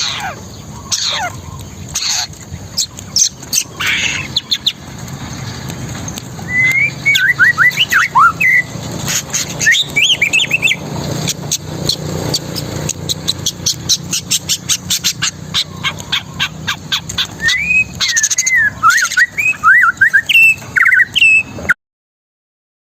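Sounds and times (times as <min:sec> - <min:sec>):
bird whistling song: 0:00.0 - 0:04.9, 0:06.1 - 0:21.8
bird rapid sharp ticks: 0:00.0 - 0:21.7.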